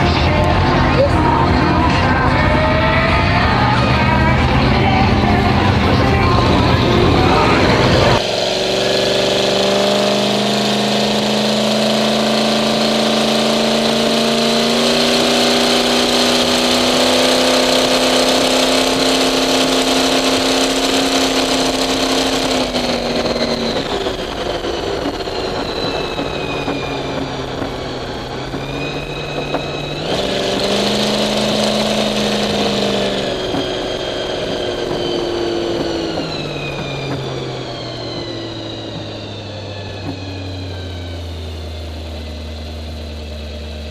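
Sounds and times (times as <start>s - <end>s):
high supercharger whine: 0.0s - 43.9s
supercharged engine revving: 0.0s - 43.9s.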